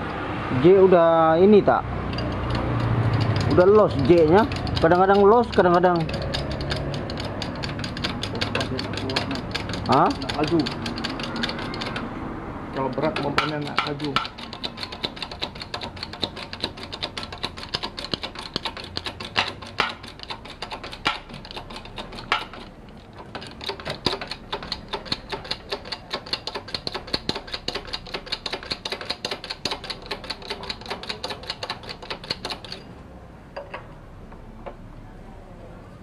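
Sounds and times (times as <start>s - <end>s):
rapid mechanical clicking: 2.1s - 12.1s, 12.7s - 32.9s.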